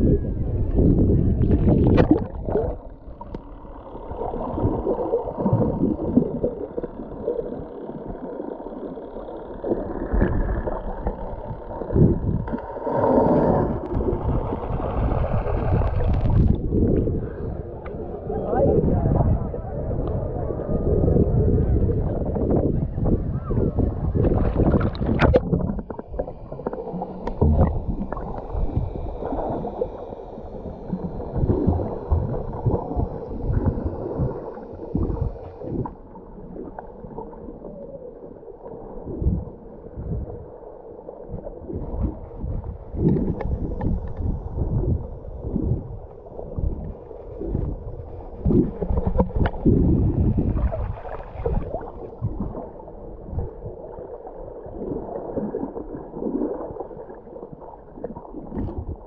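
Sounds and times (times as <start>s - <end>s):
underwater gurgling and sloshing: 0.0s - 59.0s.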